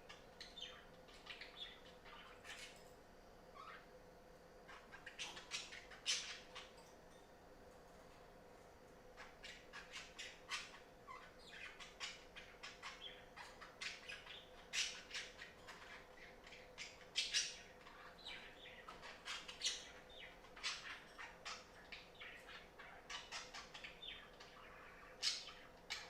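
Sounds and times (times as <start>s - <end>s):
budgerigars chirping and chattering: 0.0s - 2.8s, 4.7s - 6.8s, 9.2s - 26.0s
faint steady hum: 0.0s - 26.0s.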